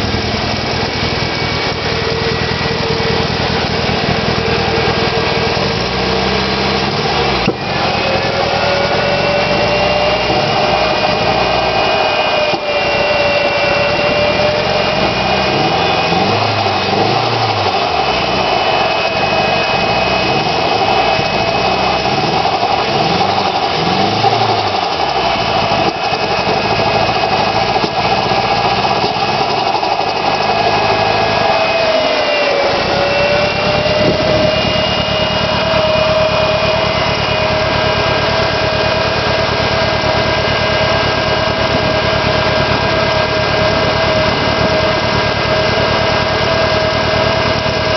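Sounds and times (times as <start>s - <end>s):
car engine idling with misfire: 0.0s - 47.9s
steady whine: 0.0s - 47.9s.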